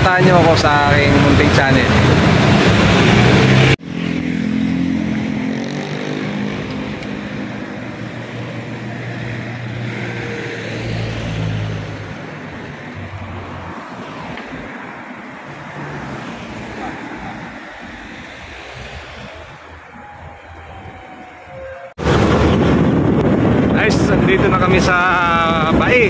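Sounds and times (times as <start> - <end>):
highway traffic hum: 0.0 - 26.0.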